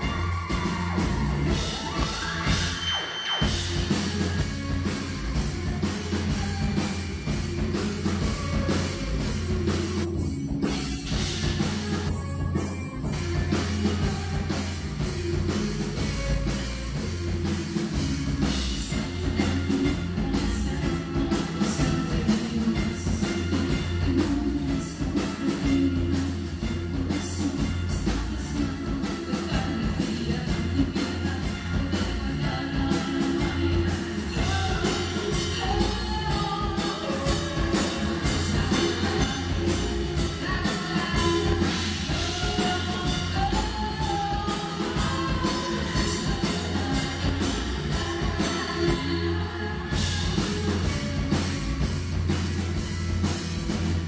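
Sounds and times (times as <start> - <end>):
drum kit: 0.0 - 54.0
electric guitar: 0.0 - 54.0
rock band playing live: 0.0 - 54.0.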